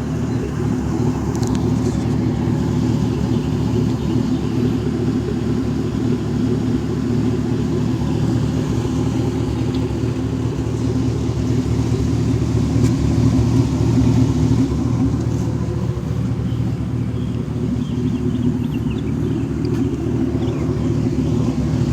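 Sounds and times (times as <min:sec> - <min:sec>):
truck exhaust rumbling: 0:00.0 - 0:21.9.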